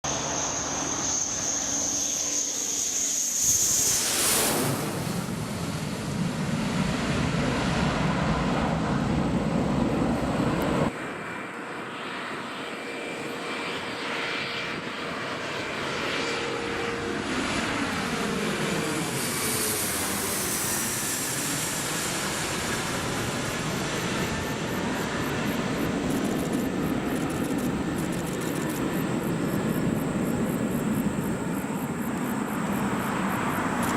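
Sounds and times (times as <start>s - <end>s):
jet engine whine: 0.0s - 33.9s
jet rush and rumble overhead: 0.0s - 33.9s.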